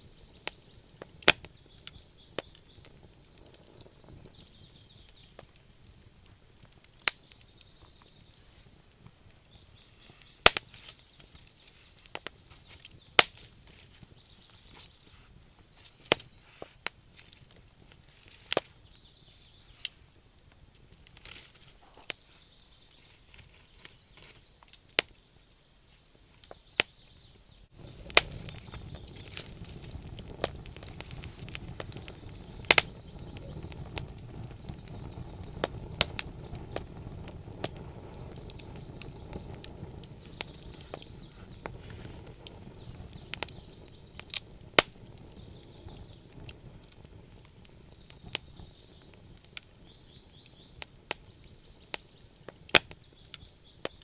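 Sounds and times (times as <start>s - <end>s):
low rumble of burning: 0.0s - 54.0s
wood fire crackling and popping: 0.0s - 54.0s.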